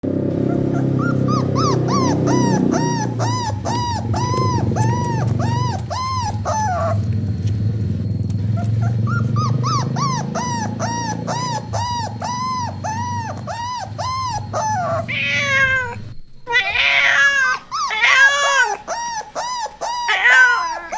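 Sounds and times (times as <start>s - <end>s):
low steady rumble: 0.0s - 18.0s
dog yelping and whining: 0.4s - 20.9s.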